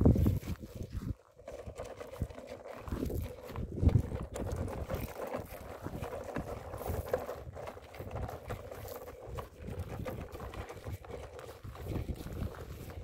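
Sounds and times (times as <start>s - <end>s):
toy truck wheels crunching gravel: 0.0s - 13.0s.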